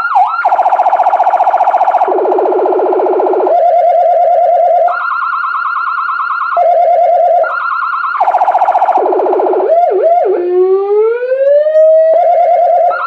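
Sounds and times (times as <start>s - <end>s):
electronic siren: 0.0s - 13.0s.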